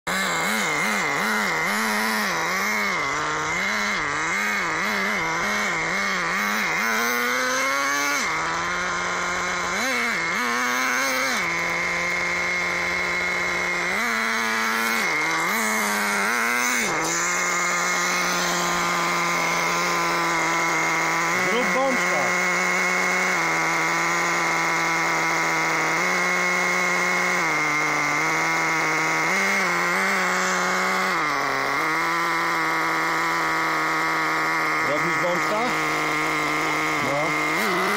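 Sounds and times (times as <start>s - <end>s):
small glow engine revving: 0.0s - 37.9s.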